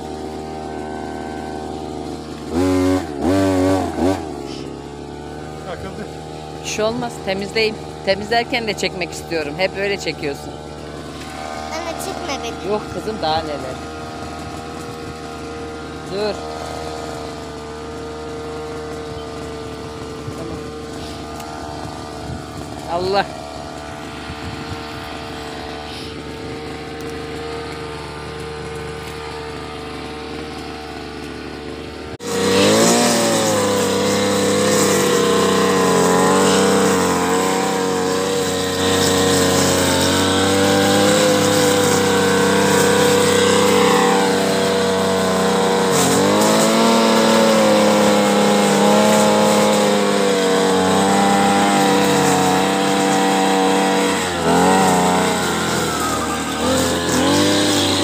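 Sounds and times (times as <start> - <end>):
brush cutter petrol engine: 0.0 - 58.0.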